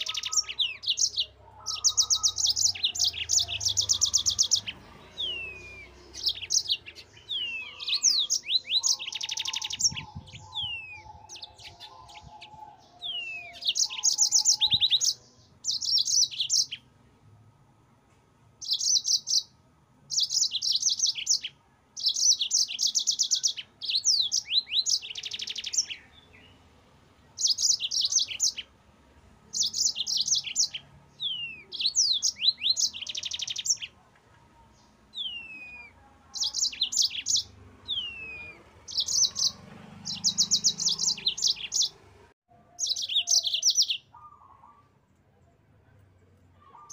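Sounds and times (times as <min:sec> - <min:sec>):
canary singing trills: 0:00.0 - 0:16.9, 0:18.6 - 0:26.7, 0:27.3 - 0:28.8, 0:29.4 - 0:45.0, 0:46.6 - 0:46.9.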